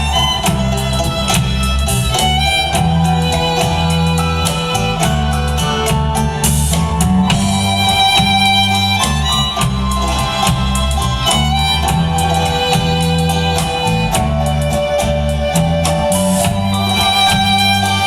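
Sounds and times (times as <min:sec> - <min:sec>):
bass: 0:00.0 - 0:18.0
guitar: 0:00.0 - 0:18.0
steady drum beat: 0:00.0 - 0:18.0
violin melody: 0:00.0 - 0:18.0.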